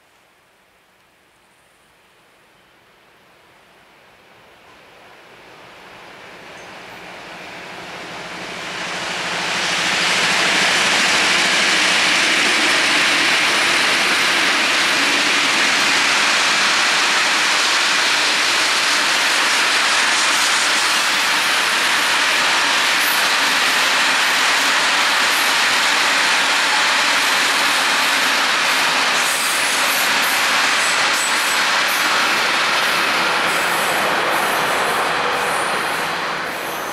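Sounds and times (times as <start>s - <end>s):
freight train passing: 4.6s - 36.9s.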